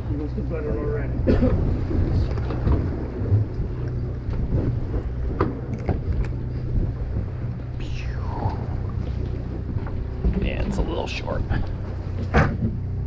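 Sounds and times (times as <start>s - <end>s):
boat engine rumble: 0.0s - 13.0s
wind on microphone: 0.0s - 13.0s.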